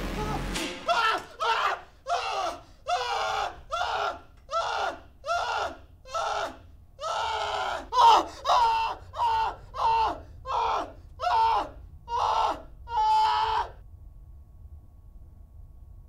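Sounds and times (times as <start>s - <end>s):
frantic screaming: 0.2s - 13.8s.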